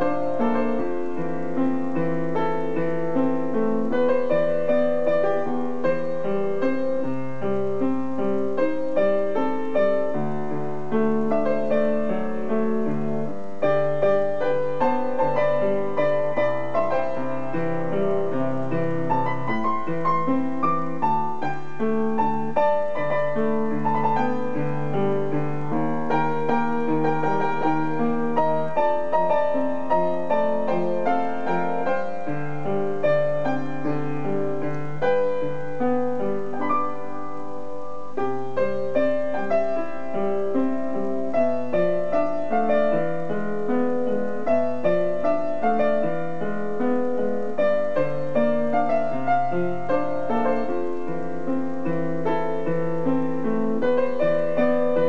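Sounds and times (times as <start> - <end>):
solo piano playing pop song: 0.0 - 55.0.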